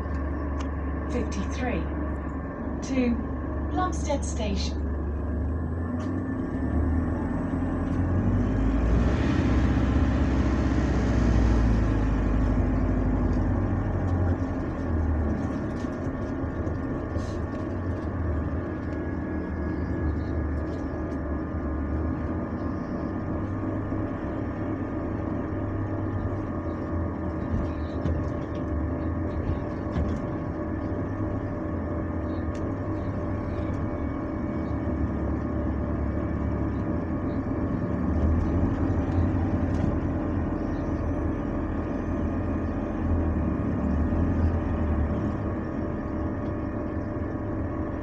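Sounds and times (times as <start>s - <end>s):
bus engine rumble and drone: 0.0s - 48.0s.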